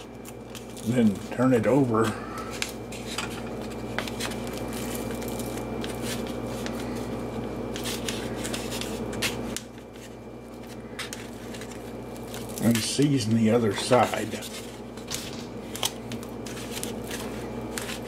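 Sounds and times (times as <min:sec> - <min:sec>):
background hum: 0:00.0 - 0:18.0.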